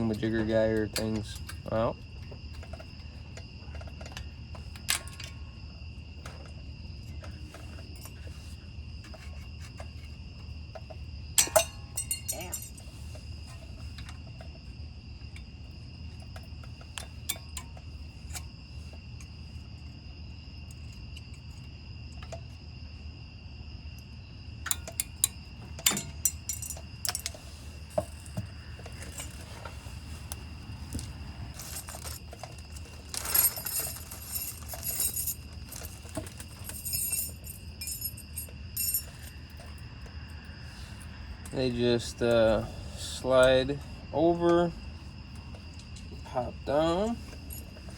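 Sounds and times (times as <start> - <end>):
insect trill: 0.0 - 47.9.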